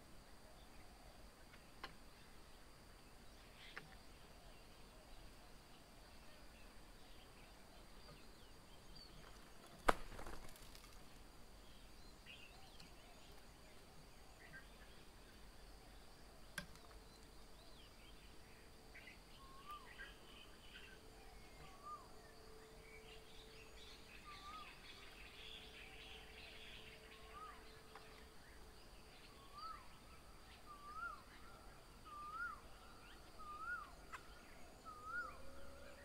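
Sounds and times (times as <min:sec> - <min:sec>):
soft bird chirps: 0:00.5 - 0:36.0.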